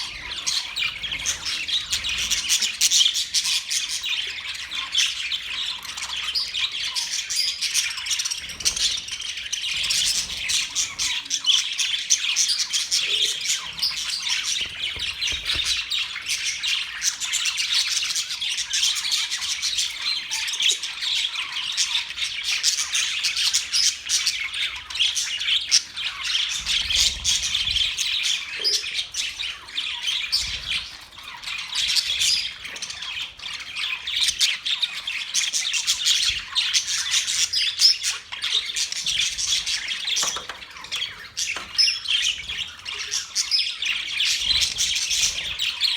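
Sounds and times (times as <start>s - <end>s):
budgerigars chattering: 0.0s - 45.9s.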